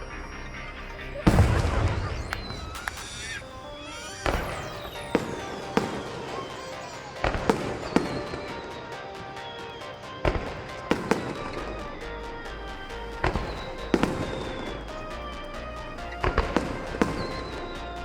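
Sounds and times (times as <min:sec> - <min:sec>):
fireworks shells bursting: 0:00.0 - 0:18.0
music playing: 0:00.0 - 0:18.0.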